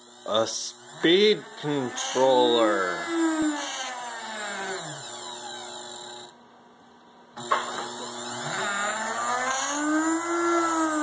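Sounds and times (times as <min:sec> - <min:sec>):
electric drill motor whining: 0:00.0 - 0:06.4, 0:07.4 - 0:11.0.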